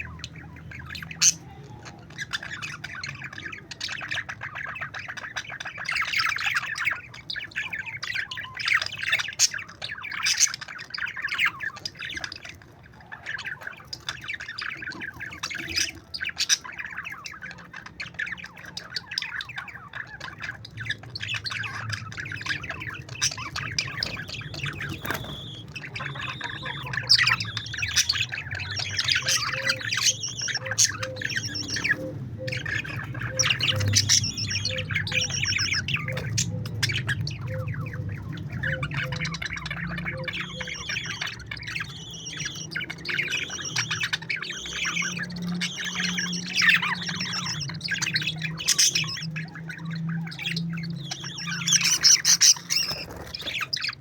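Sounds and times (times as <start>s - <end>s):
parakeets chattering and squawking: 0.0s - 54.0s.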